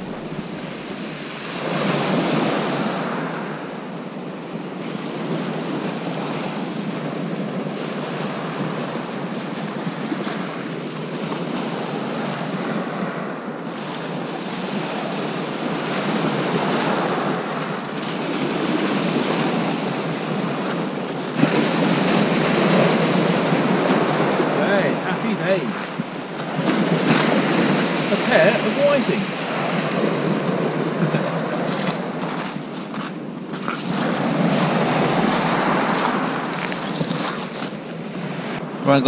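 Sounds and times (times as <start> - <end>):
surf breaking on beach: 0.0 - 3.7, 7.8 - 39.0
wind buffeting microphone: 0.0 - 38.8.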